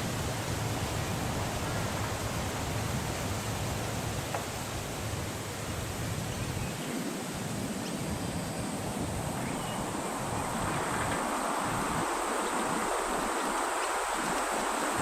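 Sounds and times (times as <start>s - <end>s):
wind-like hiss: 0.0s - 15.0s.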